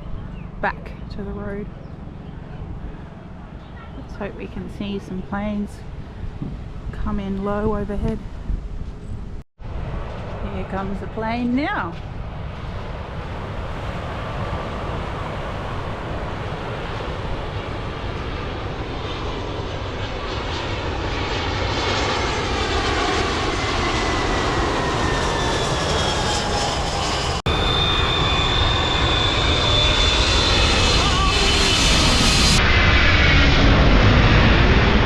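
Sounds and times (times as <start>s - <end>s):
jet engines overhead: 0.0s - 35.0s.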